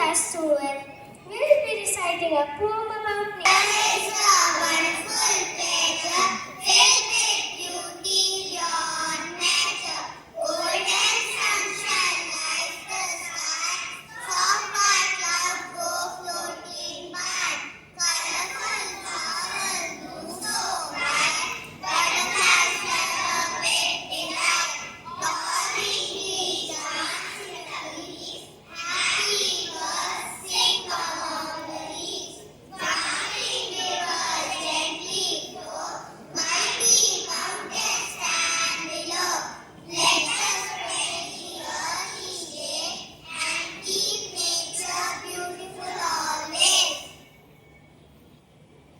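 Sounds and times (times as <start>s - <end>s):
students reciting in unison: 3.5s - 47.2s.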